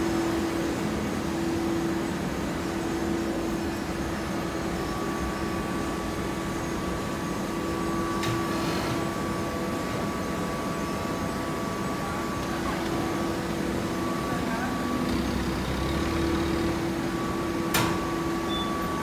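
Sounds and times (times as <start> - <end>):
high machine whine: 0.0 - 19.0
hydraulic baler humming: 0.0 - 19.0.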